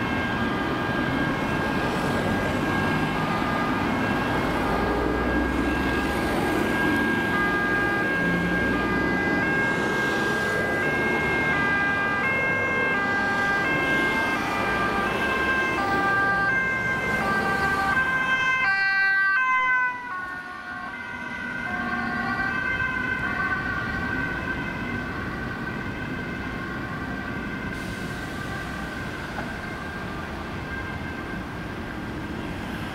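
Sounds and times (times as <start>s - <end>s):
ambulance siren: 0.0s - 32.9s.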